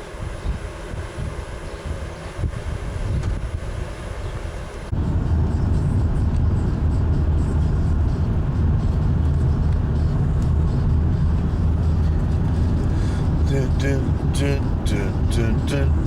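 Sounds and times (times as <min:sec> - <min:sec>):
road and engine noise inside car: 0:00.0 - 0:16.0.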